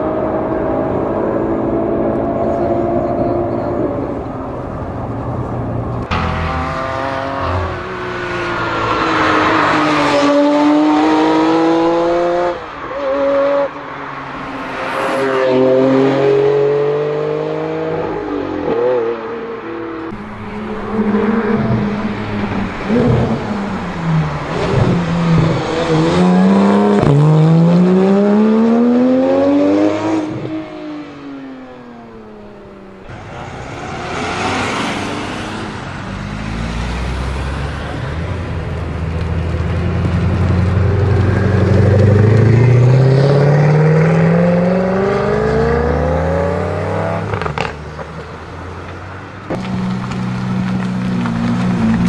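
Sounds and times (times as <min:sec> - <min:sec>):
car engine accelerating: 0:00.0 - 0:52.0
car engine revving and shifting: 0:00.0 - 0:52.0.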